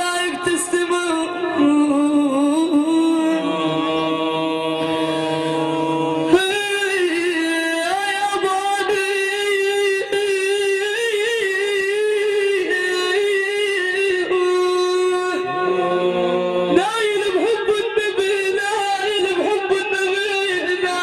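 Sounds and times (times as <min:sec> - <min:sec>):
man chanting devotional praise: 0:00.0 - 0:21.0.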